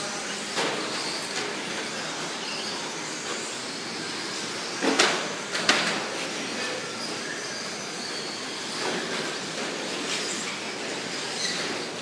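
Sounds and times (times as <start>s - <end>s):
rc truck motor whine: 0.0s - 12.0s.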